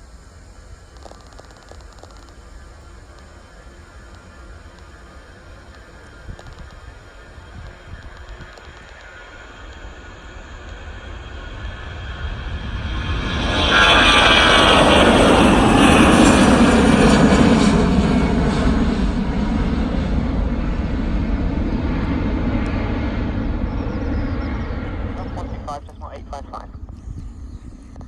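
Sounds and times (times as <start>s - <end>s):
airliner engines at high power: 0.0s - 28.0s.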